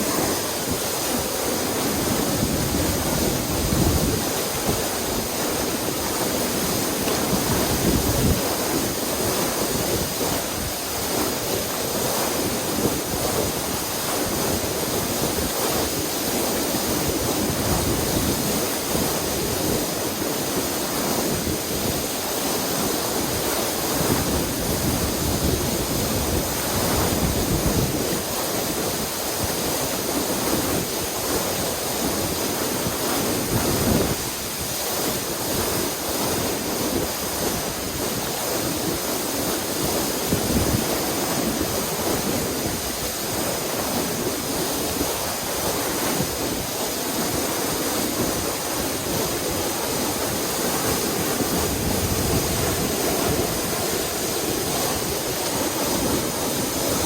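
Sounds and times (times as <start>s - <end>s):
waterfall rushing: 0.0s - 57.0s
wind buffeting microphone: 0.0s - 57.0s.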